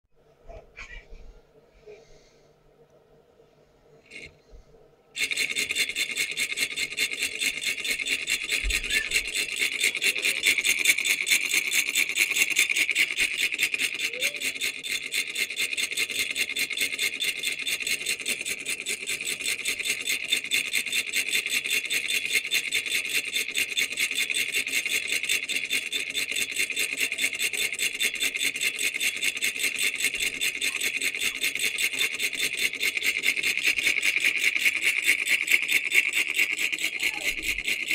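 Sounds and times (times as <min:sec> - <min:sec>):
solenoid engine clicking rattle: 0:04.1 - 0:04.3, 0:05.2 - 0:37.9.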